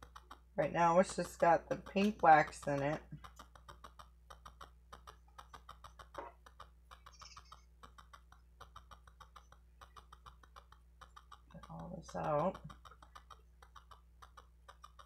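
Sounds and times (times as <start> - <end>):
rapid clicks of fingers on pen: 0.0 - 15.0.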